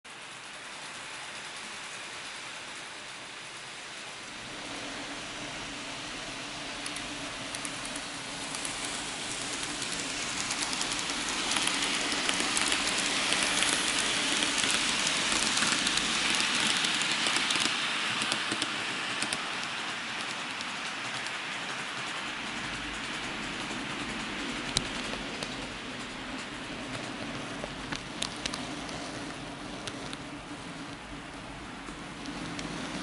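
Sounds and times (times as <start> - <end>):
model train rolling on track: 0.0 - 33.0.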